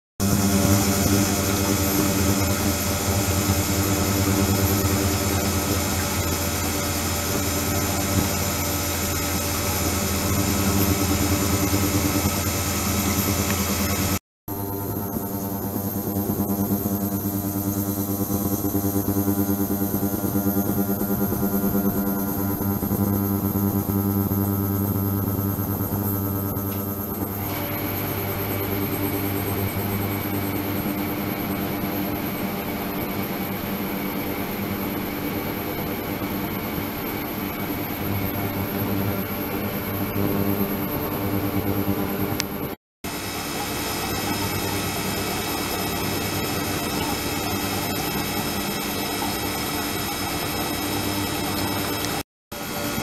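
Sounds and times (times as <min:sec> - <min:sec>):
ultrasonic cleaner hissing and humming: 0:00.2 - 0:53.0.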